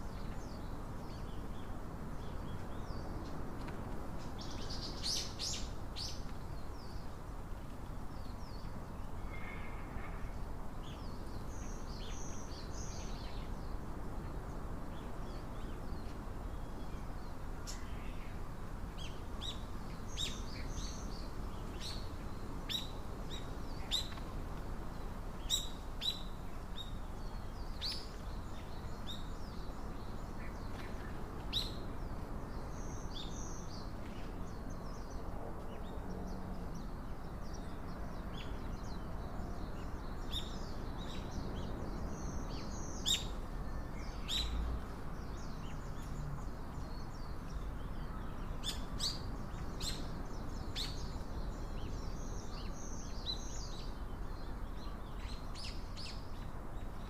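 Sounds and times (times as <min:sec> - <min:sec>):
low background hiss: 0:00.0 - 0:57.0
small birds chirping: 0:00.0 - 0:57.0.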